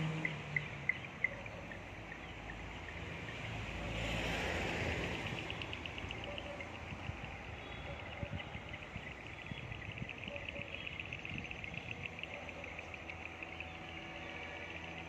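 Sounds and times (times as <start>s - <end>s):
passing vehicle rumble: 0.0s - 15.0s
insects chirping: 0.2s - 15.0s.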